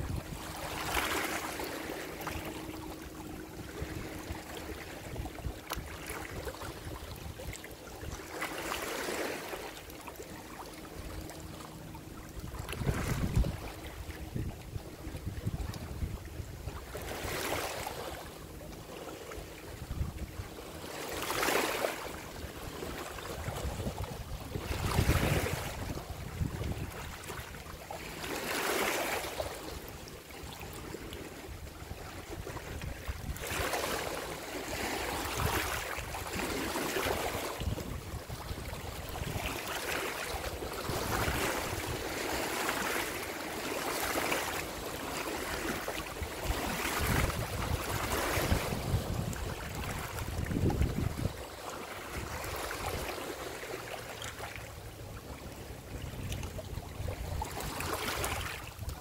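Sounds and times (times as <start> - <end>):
wind rumble on microphone: 0.0 - 8.9, 10.9 - 18.6, 19.4 - 28.4, 30.6 - 42.9, 45.4 - 53.4, 54.8 - 59.0
small waves lapping: 0.0 - 59.0.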